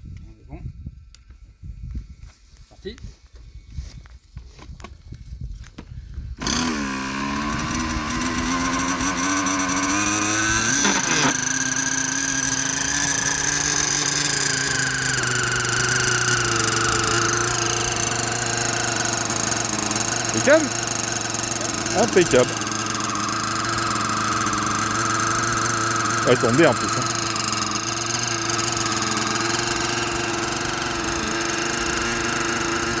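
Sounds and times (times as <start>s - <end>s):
model helicopter engine whining: 6.4s - 33.0s.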